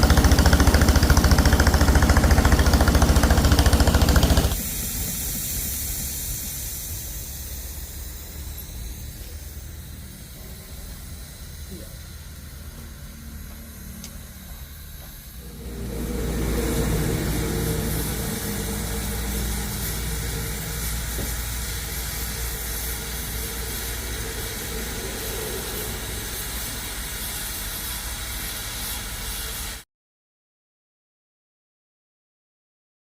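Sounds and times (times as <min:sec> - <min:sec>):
motor running with hiss: 0:00.0 - 0:29.8.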